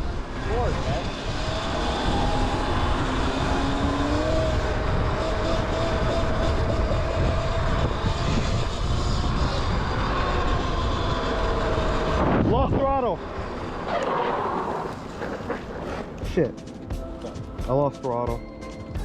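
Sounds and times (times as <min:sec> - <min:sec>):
electric dirt bike motor whining: 0:00.0 - 0:16.2
wind rumble on microphone: 0:00.0 - 0:16.5.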